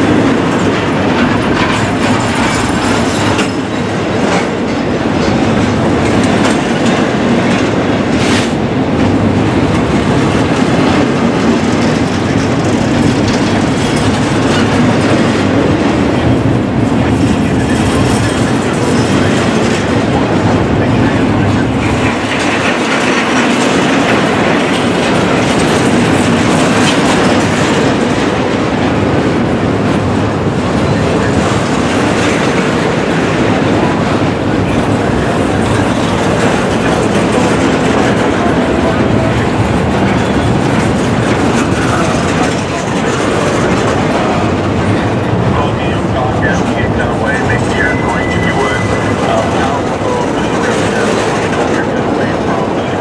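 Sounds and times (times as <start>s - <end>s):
train wheels rolling on rails: 0.0s - 53.0s.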